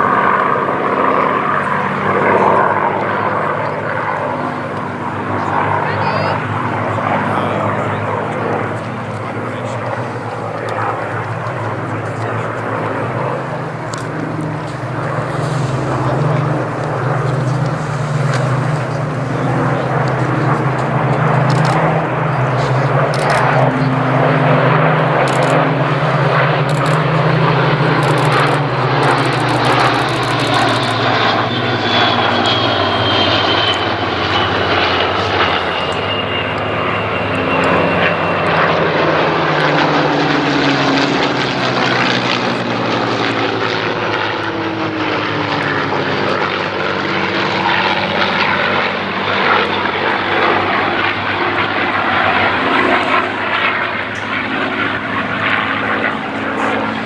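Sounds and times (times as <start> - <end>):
propeller aircraft engines: 0.0 - 57.0.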